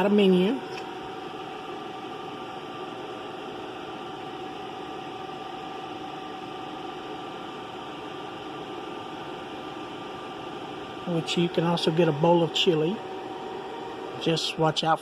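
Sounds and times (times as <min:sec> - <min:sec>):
machine hum and hiss: 0:00.0 - 0:15.0.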